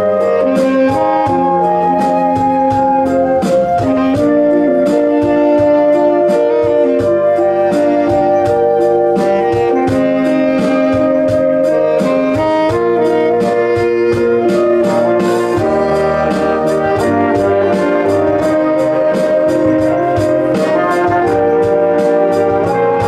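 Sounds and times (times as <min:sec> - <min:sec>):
drum kit beat: 0:00.0 - 0:23.0
saxophones and trombone: 0:00.0 - 0:23.0.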